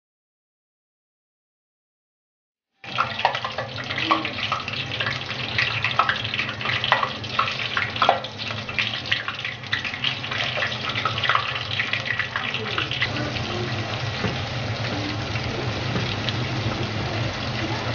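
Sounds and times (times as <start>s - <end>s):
meat sizzling in hot oil: 2.8s - 17.9s.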